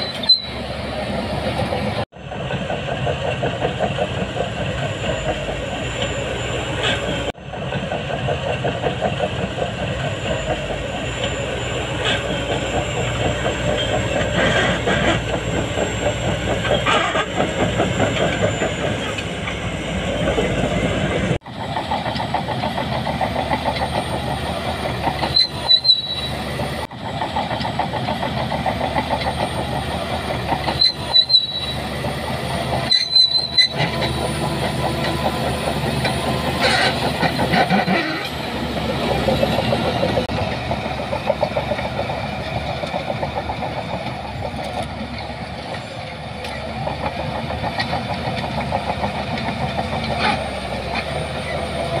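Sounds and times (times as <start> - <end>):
bulldozer engine under load: 0.0 - 52.0
steel tracks clanking: 0.0 - 52.0.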